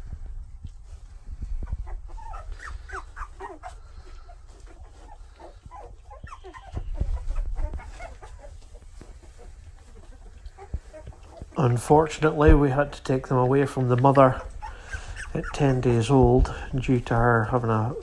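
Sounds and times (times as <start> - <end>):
puppies squeaking and whimpering: 1.4 - 18.0.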